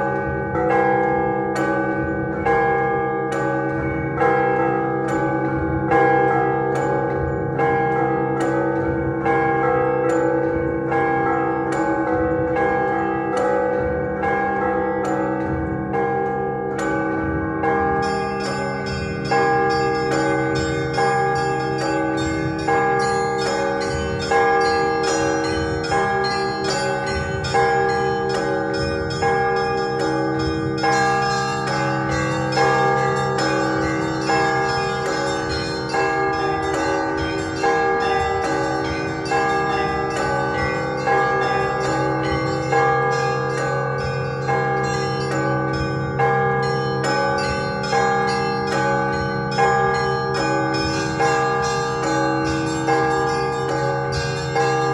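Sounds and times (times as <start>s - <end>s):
large bells ringing: 0.0s - 54.9s
small bells struck quickly: 0.0s - 54.9s.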